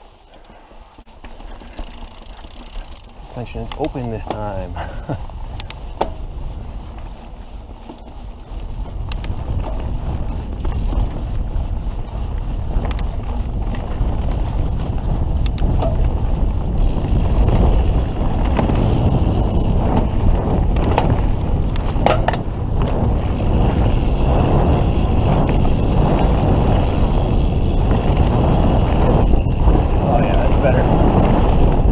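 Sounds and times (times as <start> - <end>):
bike clicks and rattles: 0.0 - 31.9
bike tyre rumble on dirt: 0.0 - 31.9
wind buffeting microphone: 2.4 - 31.9.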